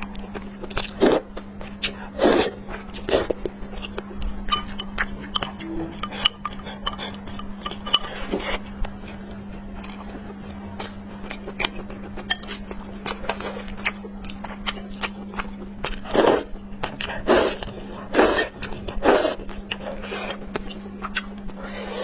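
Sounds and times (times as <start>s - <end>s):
close chewing and biting: 0.0s - 22.0s
steady low hum: 0.0s - 22.0s.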